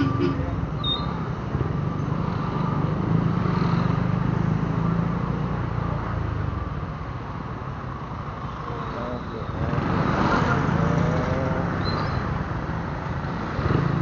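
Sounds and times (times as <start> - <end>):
traffic road noise: 0.0 - 14.0.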